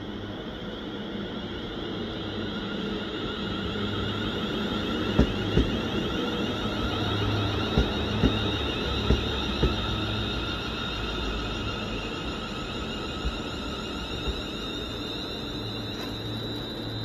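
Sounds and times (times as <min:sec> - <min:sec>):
train rumble with high whine: 0:00.0 - 0:17.0.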